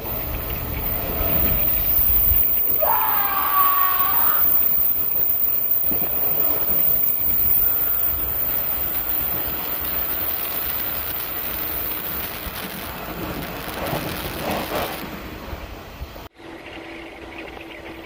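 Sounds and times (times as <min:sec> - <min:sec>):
rushing wind: 0:00.0 - 0:16.7
train running in tunnel: 0:00.0 - 0:18.0.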